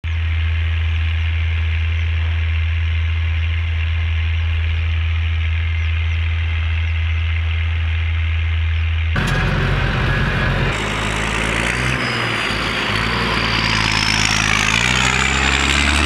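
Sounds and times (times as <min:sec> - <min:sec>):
tractor diesel engine droning: 0:00.1 - 0:16.0.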